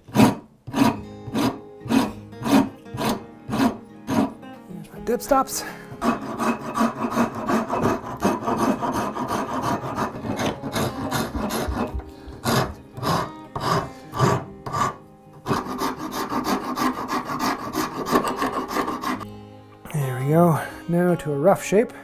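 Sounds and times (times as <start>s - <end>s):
hand rasp scraping wood: 0.0s - 4.4s, 5.9s - 19.2s.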